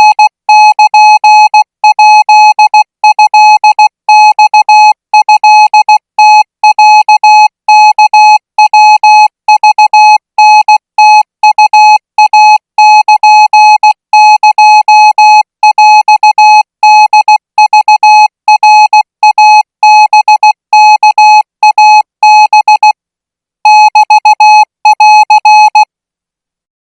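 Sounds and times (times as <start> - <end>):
morse code beeps: 0.0 - 23.0, 23.6 - 25.9.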